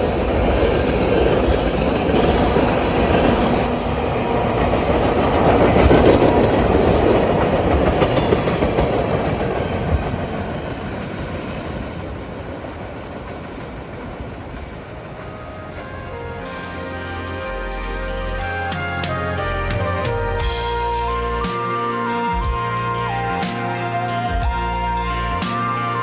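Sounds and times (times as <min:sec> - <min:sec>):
freight train wheels clattering: 0:00.0 - 0:23.7.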